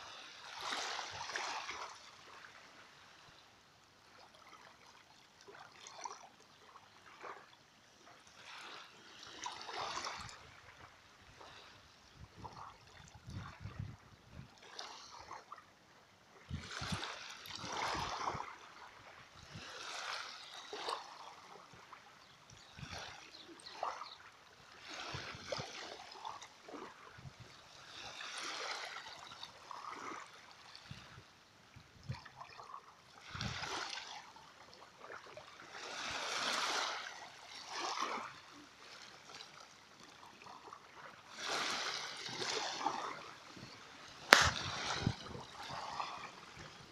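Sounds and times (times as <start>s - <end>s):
small waves lapping and splashing: 0.0s - 46.9s.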